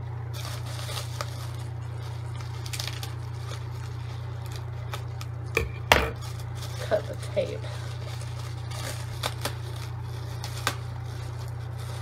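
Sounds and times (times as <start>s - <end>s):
bubble wrap rustling: 0.0s - 12.0s.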